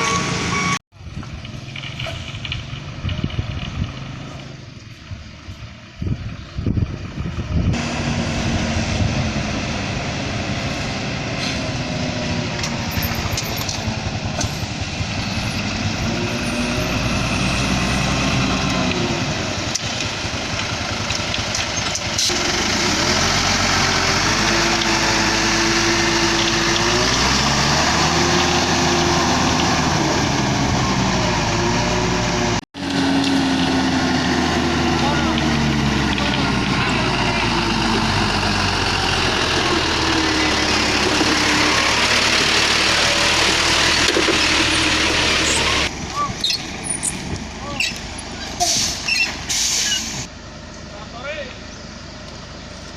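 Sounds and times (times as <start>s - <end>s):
diesel truck engine revving: 6.0s - 52.9s.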